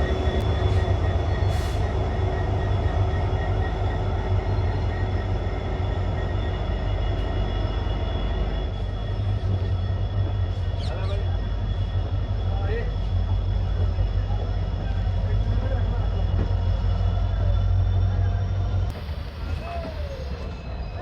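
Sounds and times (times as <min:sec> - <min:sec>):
diesel locomotive engine humming: 0:00.0 - 0:21.0.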